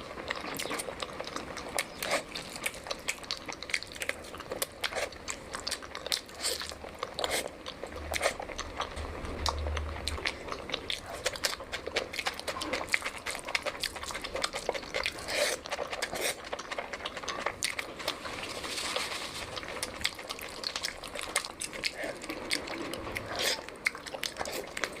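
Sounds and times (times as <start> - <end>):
crunchy chewing: 0.0 - 25.0.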